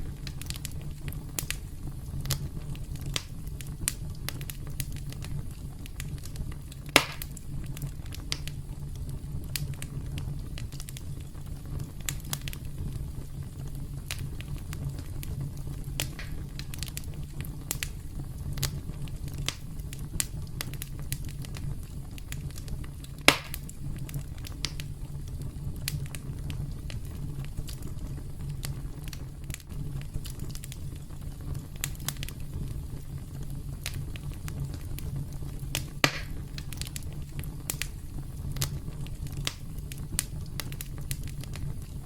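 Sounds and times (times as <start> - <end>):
campfire crackling: 0.0 - 42.0
fire pops and snaps: 0.0 - 42.0
low steady rumble: 0.0 - 42.0.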